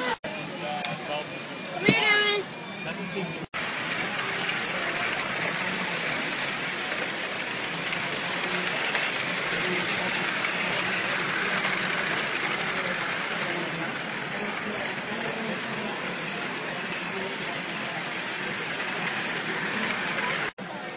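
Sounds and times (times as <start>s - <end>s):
hubbub of a busy hall: 0.0s - 20.9s
model trains rattling on track: 3.6s - 20.6s.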